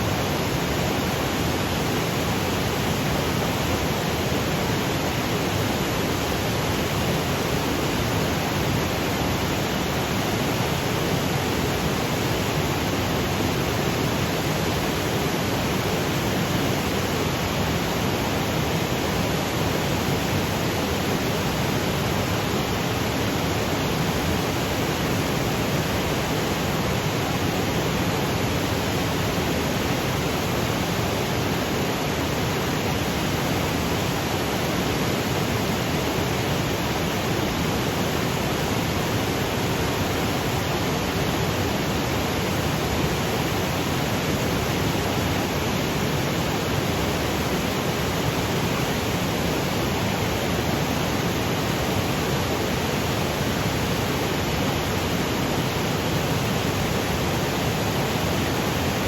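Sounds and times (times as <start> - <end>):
waterfall rushing over boulders: 0.0 - 59.0.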